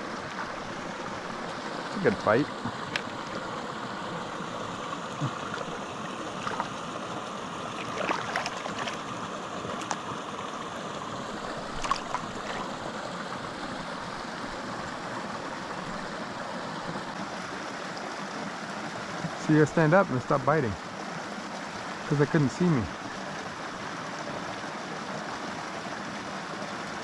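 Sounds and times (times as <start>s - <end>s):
mountain creek running: 0.0s - 27.0s.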